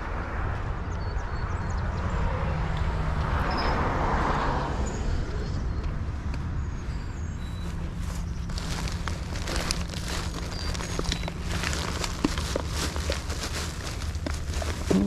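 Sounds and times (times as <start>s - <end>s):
low traffic rumble: 0.0s - 15.0s
vehicle passing: 0.0s - 15.0s.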